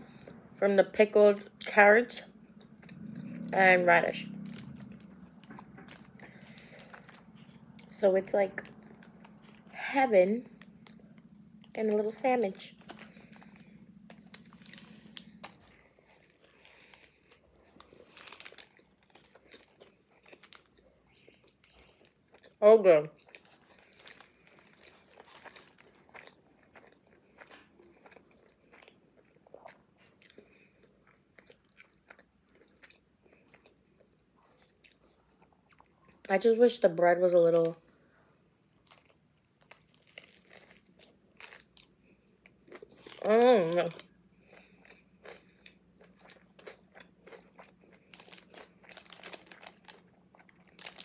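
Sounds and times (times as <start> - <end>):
chewing crusty bread: 1.4 - 36.6, 37.4 - 51.0.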